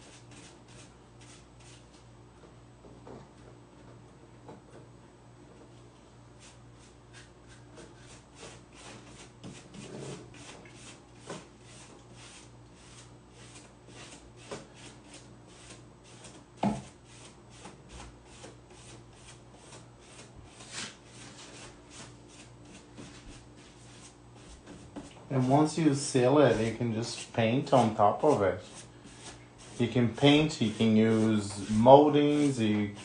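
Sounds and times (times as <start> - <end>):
brush rubbing over tissue paper: 0.0 - 2.0, 6.4 - 33.0.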